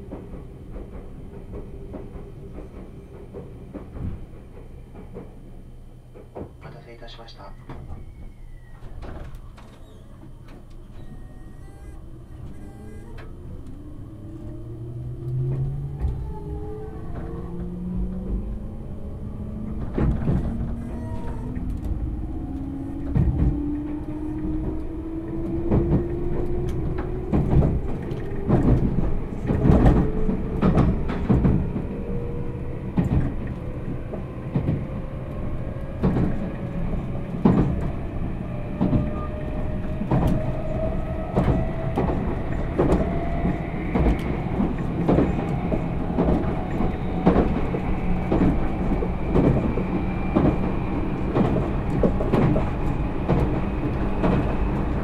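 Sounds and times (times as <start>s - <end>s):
low train rumble: 0.0s - 55.0s.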